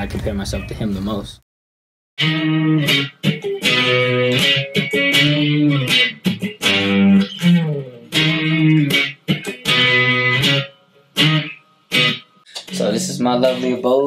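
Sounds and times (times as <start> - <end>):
electric guitar through amplifier: 2.2 - 14.0.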